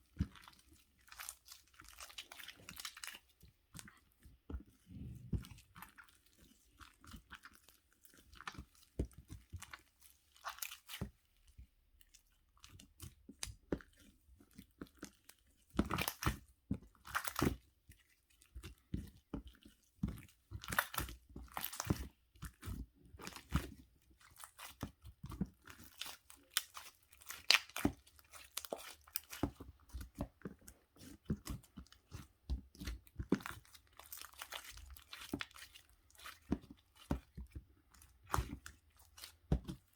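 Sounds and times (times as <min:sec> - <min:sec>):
chewing crunchy food: 0:00.0 - 0:11.0, 0:12.0 - 0:39.9.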